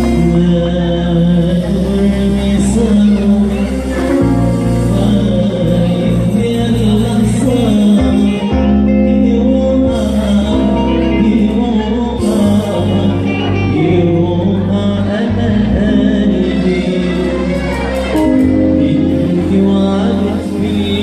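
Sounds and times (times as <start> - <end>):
bass notes: 0.0 - 21.0
keyboard: 0.0 - 21.0
man singing: 0.0 - 21.0.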